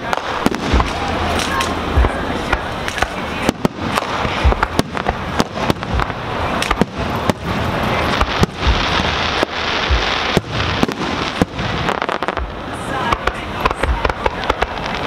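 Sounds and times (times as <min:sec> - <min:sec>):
constant hiss: 0:00.0 - 0:15.0
deep fireworks booms: 0:00.0 - 0:15.0
fireworks cracking: 0:00.0 - 0:15.0.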